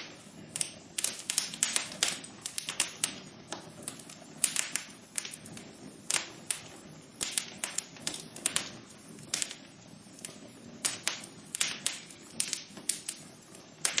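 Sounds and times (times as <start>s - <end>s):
low steady hiss: 0.0s - 14.0s
wood fire crackling: 0.0s - 14.0s.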